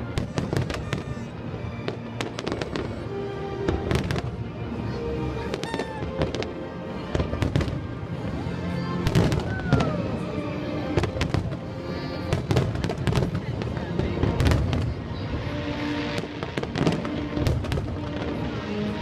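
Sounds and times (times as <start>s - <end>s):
fireworks bangs and crackles: 0.0s - 4.8s, 5.4s - 8.4s, 9.0s - 19.0s.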